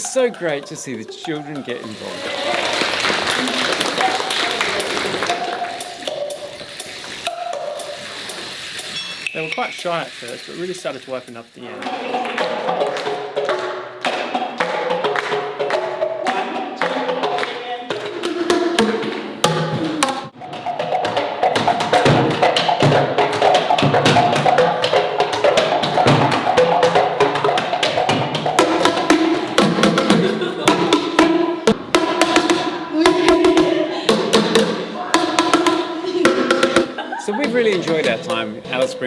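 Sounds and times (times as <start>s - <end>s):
percussion music with wooden knocks: 0.0s - 39.0s.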